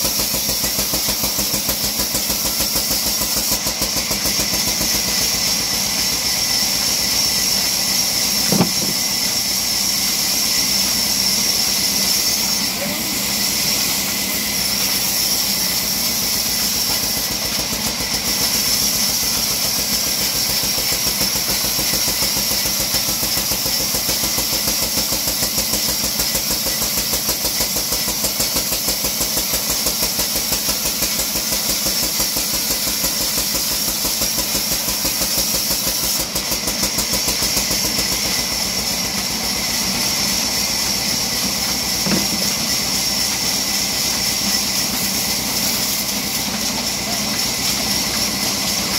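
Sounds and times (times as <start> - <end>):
bandsaw sawing a log: 0.0 - 48.9.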